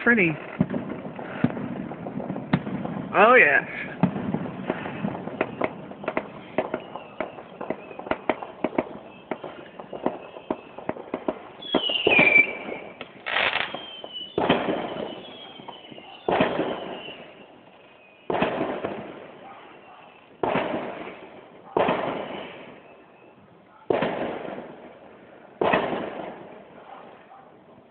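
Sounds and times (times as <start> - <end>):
fireworks whistling: 0.0 - 27.3
fireworks bangs: 0.0 - 27.9
fireworks crackling: 0.0 - 27.9.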